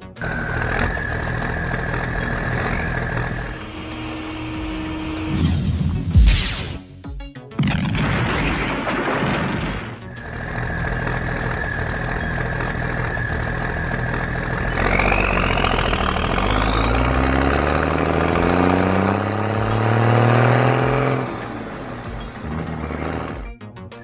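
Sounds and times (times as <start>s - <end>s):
climbing engine whine: 0.0s - 6.1s, 10.0s - 23.6s
truck engine revving: 0.0s - 6.1s, 10.0s - 23.6s.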